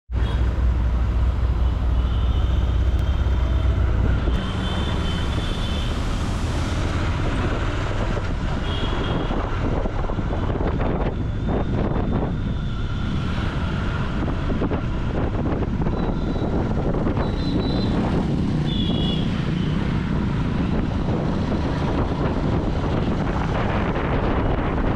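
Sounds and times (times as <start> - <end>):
wind noise on microphone: 3.0 - 24.9.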